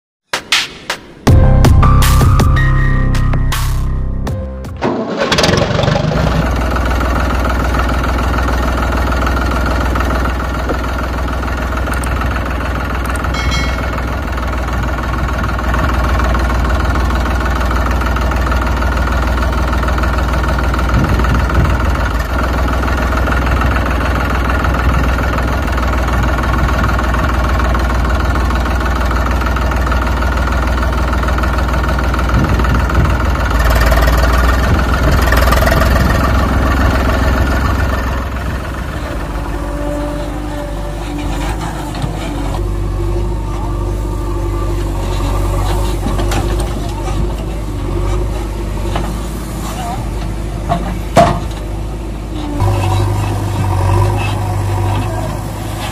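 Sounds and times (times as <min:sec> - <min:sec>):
tractor engine idling: 0:01.3 - 0:55.9.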